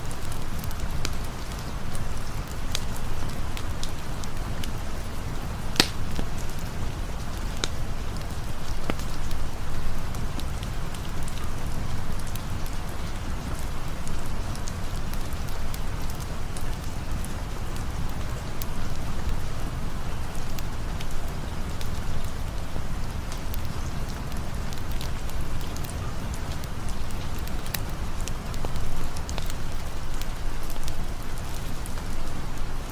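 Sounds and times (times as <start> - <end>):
rain falling: 0.0 - 32.9.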